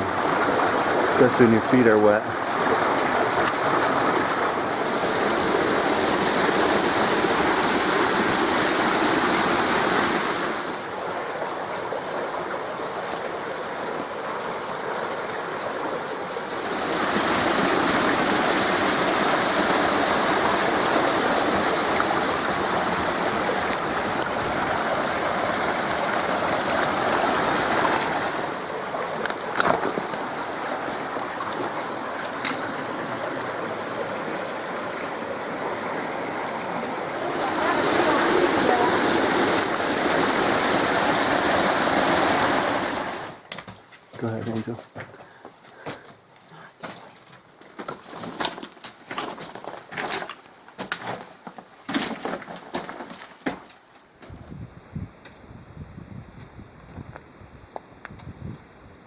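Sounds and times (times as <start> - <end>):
creek water rushing over rocks: 0.0 - 51.0.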